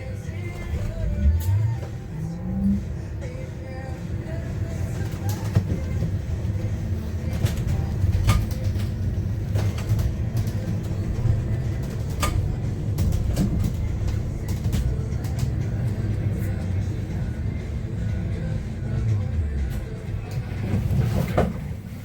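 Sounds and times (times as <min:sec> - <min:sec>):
bus road and drivetrain rumble: 0:00.0 - 0:22.0
interior rattles and knocks: 0:00.3 - 0:03.4, 0:04.3 - 0:22.0.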